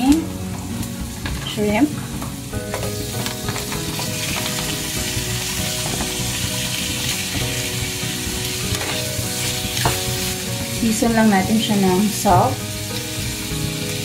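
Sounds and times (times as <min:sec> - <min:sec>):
shrimp sizzling in a pan: 0:00.0 - 0:14.0.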